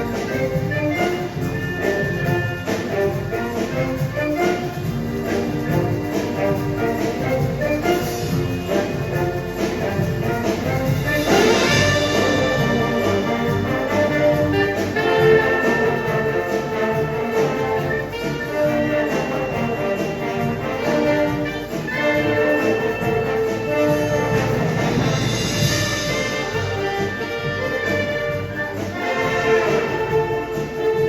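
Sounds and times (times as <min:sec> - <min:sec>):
brass playing melody: 0:00.0 - 0:31.0
steady drum beat: 0:00.0 - 0:31.0.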